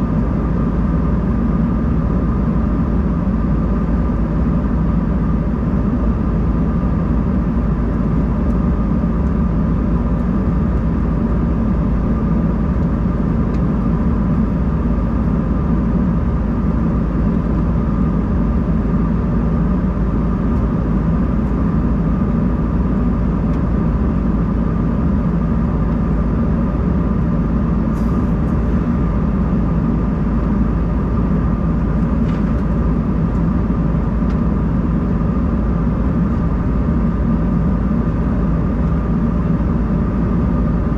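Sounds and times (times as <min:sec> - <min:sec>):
airliner cabin rumble and air rush: 0:00.0 - 0:40.9
jet engine whine: 0:00.0 - 0:40.9.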